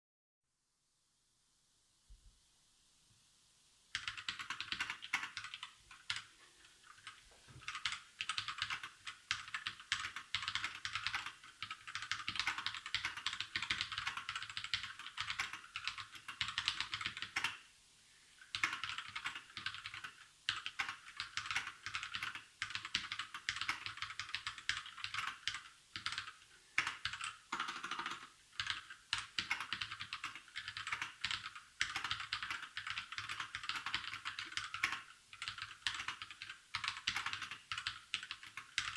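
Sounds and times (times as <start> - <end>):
fast typing on mechanical keyboard: 3.9 - 17.6, 18.4 - 38.9.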